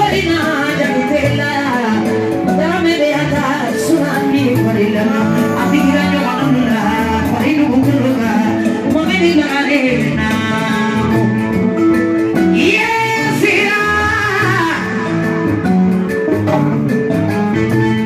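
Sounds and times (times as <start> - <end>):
person singing over instruments: 0.0 - 16.8.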